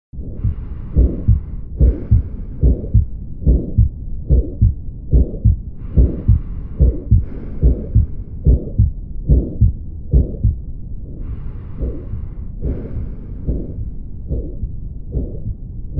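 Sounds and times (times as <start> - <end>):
heartbeat through stethoscope: 0.2 - 10.6, 11.2 - 15.9
heart murmur: 0.3 - 10.6, 11.2 - 15.9.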